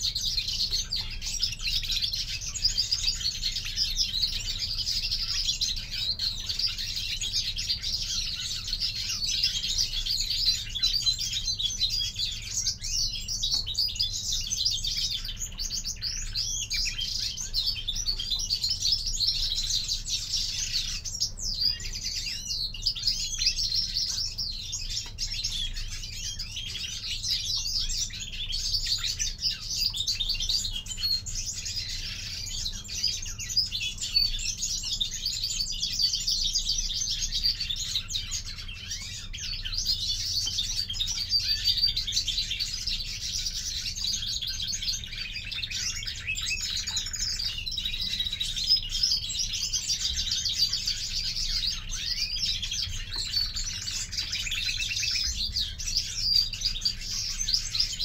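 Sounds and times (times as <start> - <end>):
finches chirping and twittering: 0.0 - 58.0.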